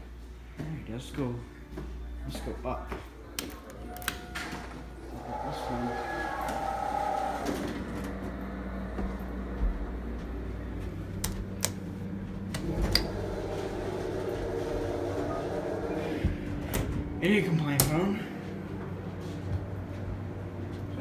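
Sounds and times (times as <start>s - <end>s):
elevator cab hum: 3.7s - 21.0s.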